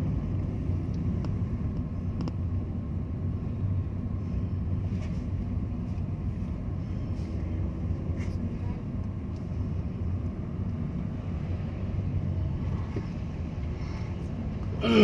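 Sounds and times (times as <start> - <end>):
vehicle interior engine and tyre rumble: 0.0 - 15.0.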